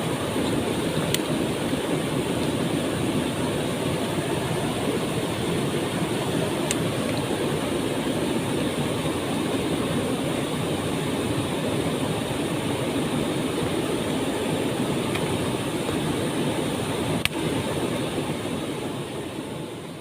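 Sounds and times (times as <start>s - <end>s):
waterfall rushing: 0.0s - 19.7s.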